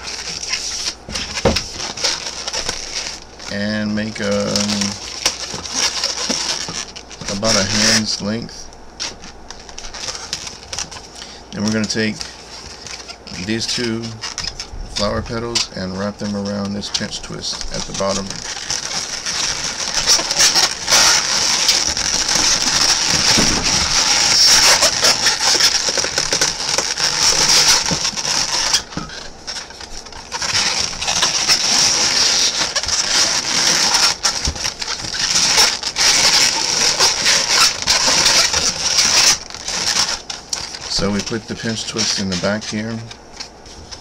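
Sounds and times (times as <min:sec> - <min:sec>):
balloons squeaking and rubbing: 0:00.0 - 0:44.0.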